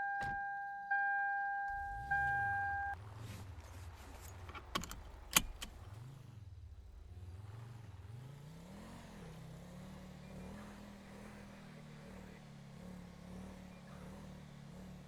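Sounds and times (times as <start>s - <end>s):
vehicle engine revving and idling: 1.7s - 15.0s.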